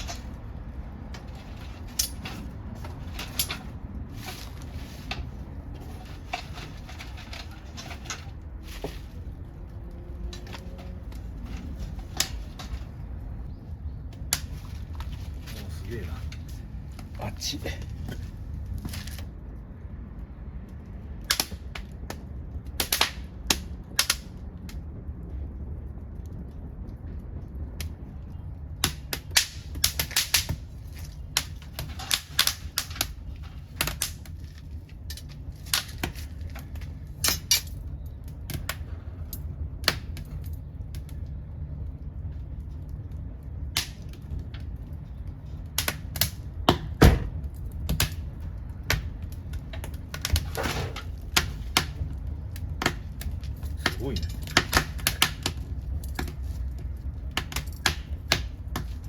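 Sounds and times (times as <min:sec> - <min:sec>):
stove low rumble: 0:00.0 - 0:59.0
wood fire crackling and popping: 0:00.0 - 0:59.0.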